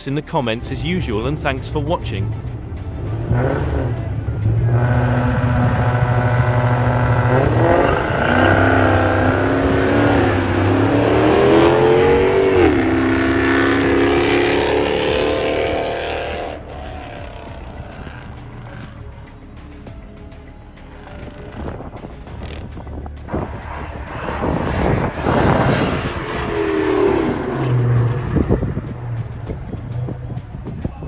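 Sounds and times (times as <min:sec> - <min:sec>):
drag racing car engines: 0:00.0 - 0:31.0.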